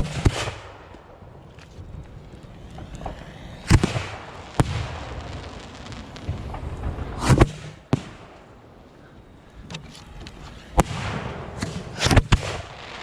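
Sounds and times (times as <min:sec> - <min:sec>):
firework bangs: 0:00.0 - 0:08.9, 0:10.0 - 0:13.0
firework crackle and rumble: 0:00.0 - 0:13.0.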